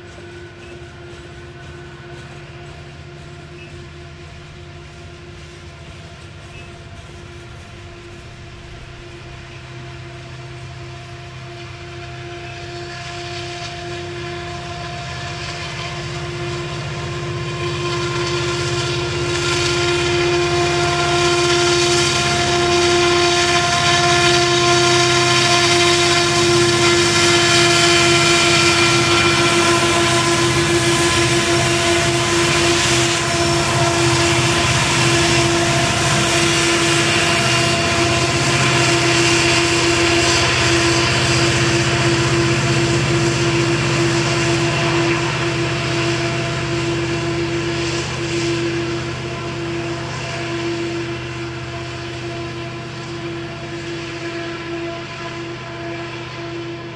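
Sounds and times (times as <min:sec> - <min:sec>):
diesel locomotive engine drone: 0:00.0 - 0:56.9
locomotive whine: 0:00.0 - 0:56.9.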